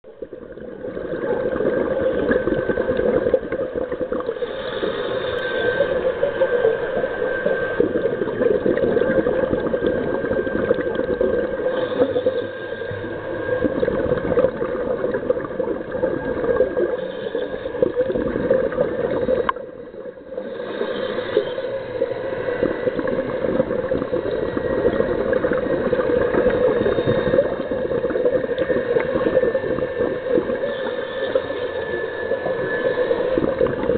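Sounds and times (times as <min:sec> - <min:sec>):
underwater regulator bubbling: 0:00.0 - 0:33.9.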